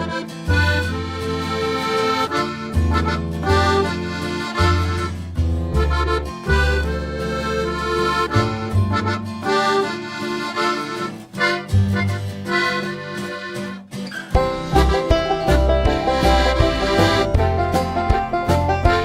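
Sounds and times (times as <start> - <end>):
instrumental background music: 0.0 - 19.0.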